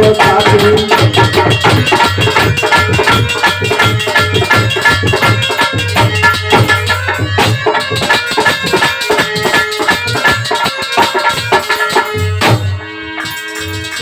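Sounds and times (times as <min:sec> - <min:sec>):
fast hand-drum beat: 0:00.0 - 0:12.8
jingling metal percussion: 0:00.0 - 0:14.0.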